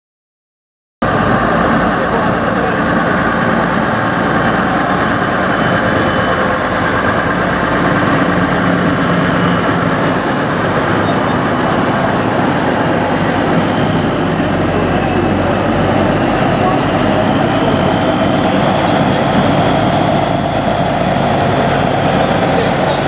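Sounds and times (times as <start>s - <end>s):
truck engine running: 1.0s - 23.0s.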